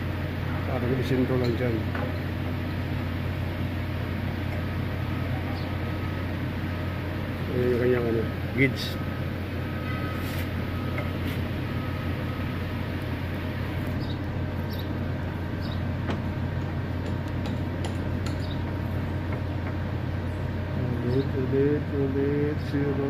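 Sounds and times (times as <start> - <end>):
workshop machinery humming: 0.0 - 23.0.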